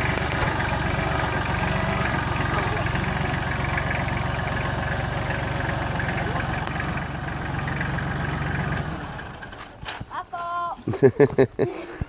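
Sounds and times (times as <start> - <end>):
tractor engine idling: 0.0 - 9.8.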